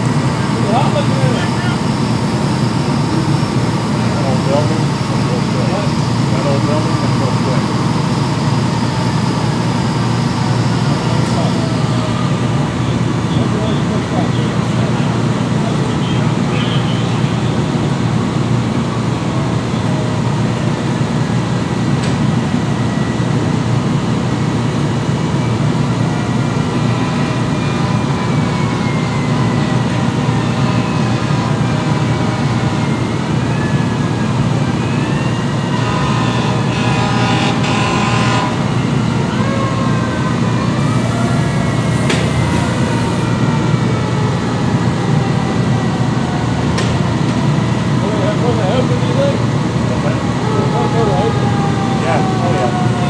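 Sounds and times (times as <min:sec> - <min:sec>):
diesel engines rumbling: 0:00.0 - 0:53.0
faint siren wails: 0:00.0 - 0:53.0.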